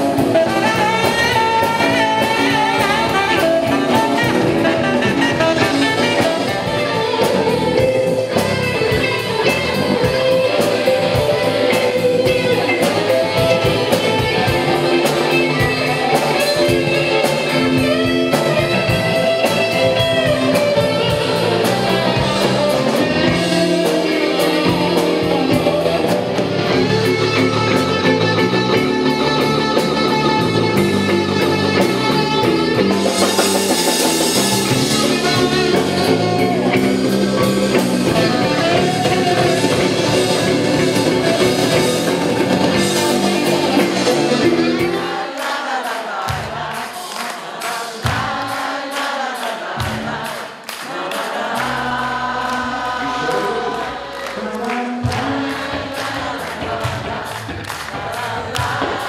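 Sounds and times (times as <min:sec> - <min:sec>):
electric guitar bending notes: 0:00.0 - 0:45.2, 0:51.4 - 0:59.0
live blues-rock band: 0:00.0 - 0:59.0.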